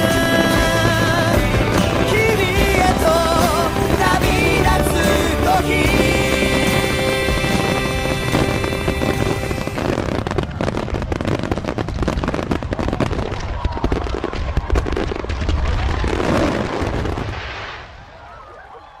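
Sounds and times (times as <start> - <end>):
fireworks bursting: 0.0 - 18.4.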